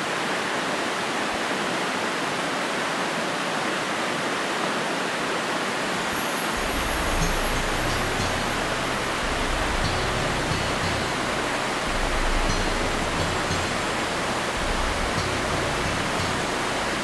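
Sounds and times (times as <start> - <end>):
stream rushing over pebbles: 0.0 - 17.0.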